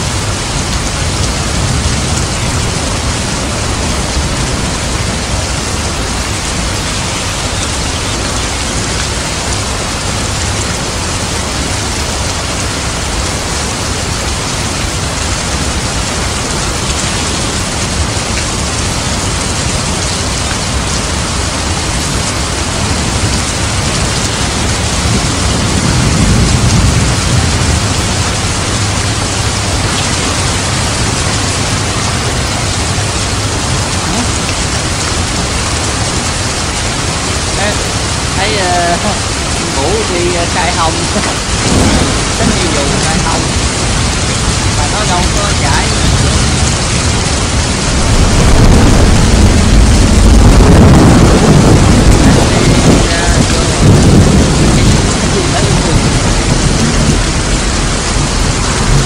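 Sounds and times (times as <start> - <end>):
heavy rain falling: 0.0 - 59.0
low rumble: 0.0 - 59.0.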